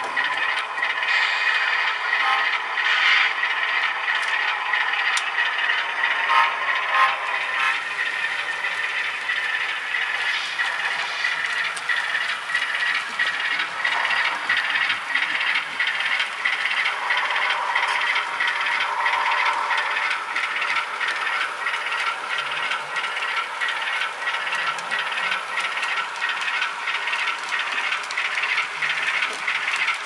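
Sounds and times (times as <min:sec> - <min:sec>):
model train wheels clattering on rails: 0:00.0 - 0:30.0.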